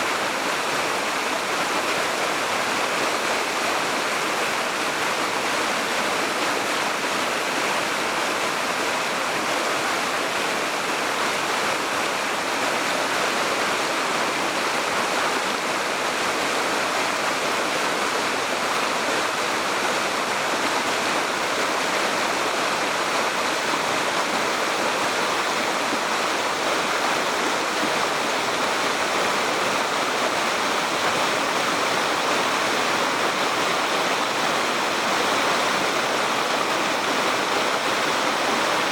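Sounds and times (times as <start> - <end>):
mountain stream flowing: 0.0 - 38.9.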